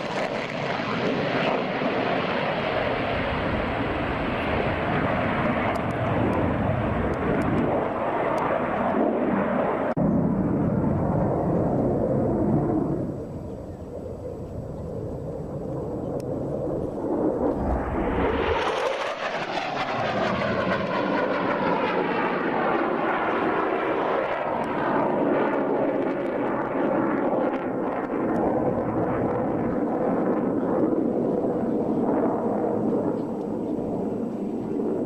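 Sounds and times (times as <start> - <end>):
airplane engine passing: 0.0 - 35.0.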